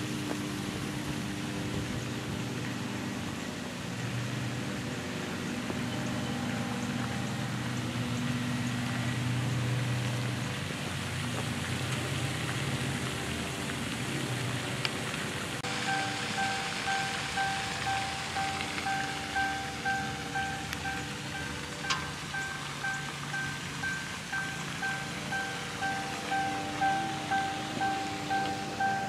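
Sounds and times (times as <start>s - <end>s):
fountain spray splashing: 0.0s - 29.0s
low steady hum: 0.0s - 29.0s.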